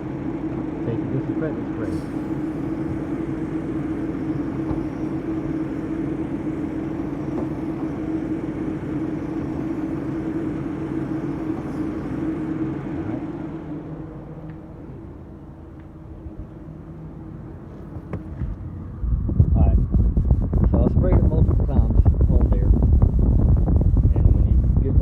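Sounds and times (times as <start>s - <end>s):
blower fan hum: 0.0s - 25.0s
car engine running: 0.0s - 25.0s.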